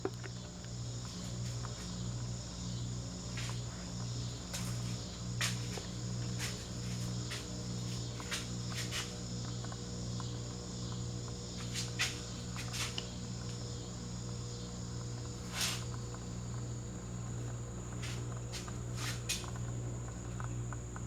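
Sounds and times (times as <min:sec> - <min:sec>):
ceiling fan motor hum: 0:00.0 - 0:21.0.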